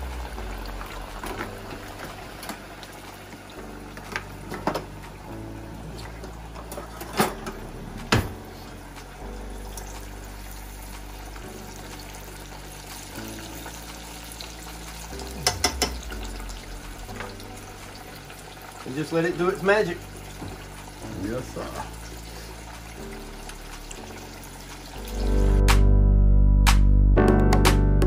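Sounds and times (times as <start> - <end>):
fish frying in oil: 0.0 - 7.0, 8.3 - 25.5.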